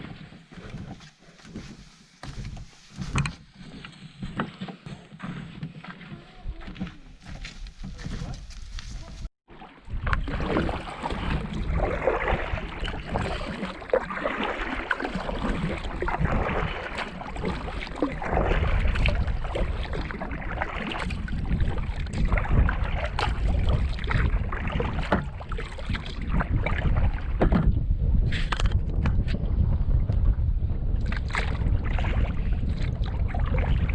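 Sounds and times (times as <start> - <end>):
paddle splashes: 0.0 - 27.8, 31.0 - 33.9
water splashing around boat: 0.0 - 33.9
wind on microphone: 5.9 - 33.9.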